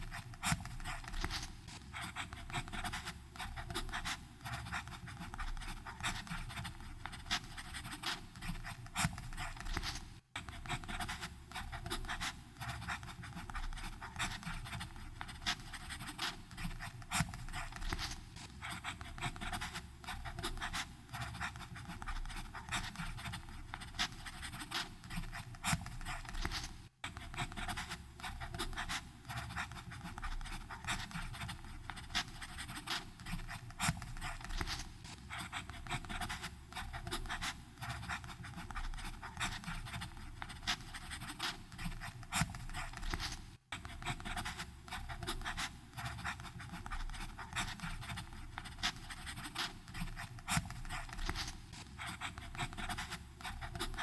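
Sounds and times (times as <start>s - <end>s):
pen nib scratching on paper: 0.0s - 54.0s.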